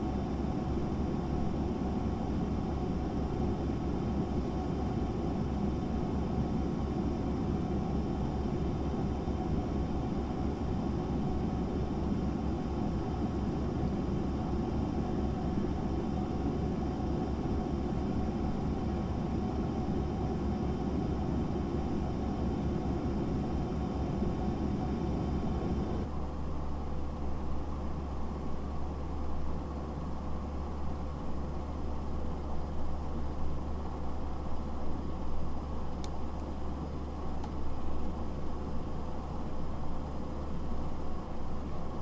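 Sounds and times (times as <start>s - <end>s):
faint constant hum: 0.0s - 42.0s
fan whirring: 0.0s - 42.0s.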